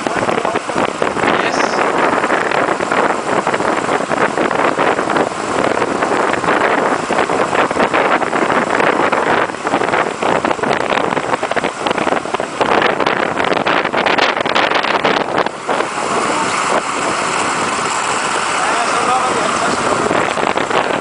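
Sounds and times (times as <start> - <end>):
iceboat gliding over ice: 0.0 - 21.0
wind buffeting microphone: 0.0 - 21.0.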